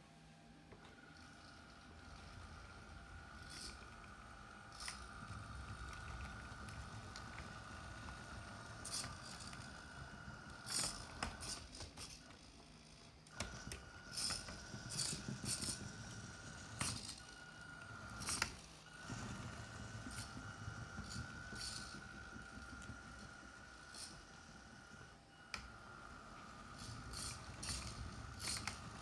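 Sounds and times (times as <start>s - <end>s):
small electric motor whining: 0.8s - 29.0s.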